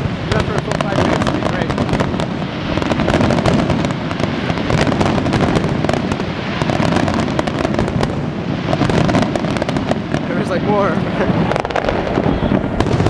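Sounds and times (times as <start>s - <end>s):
firework bangs and pops: 0.0s - 13.0s.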